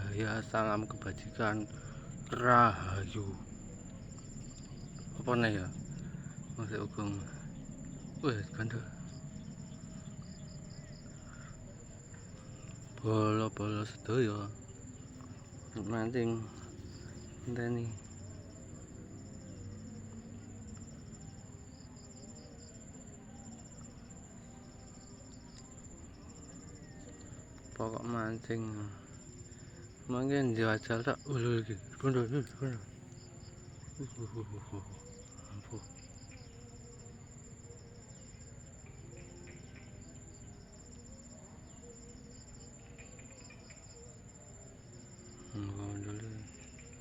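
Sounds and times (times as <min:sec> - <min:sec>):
crickets trilling: 0:00.0 - 0:47.0
insects chirping: 0:00.0 - 0:47.0.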